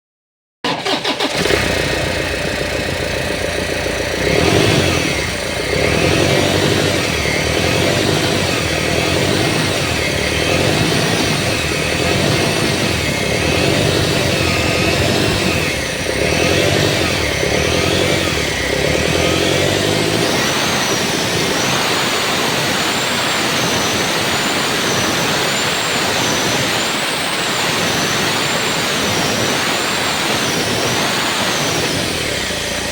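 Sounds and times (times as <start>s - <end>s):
car engine running: 0.6s - 32.9s
turbo whine: 0.8s - 32.9s.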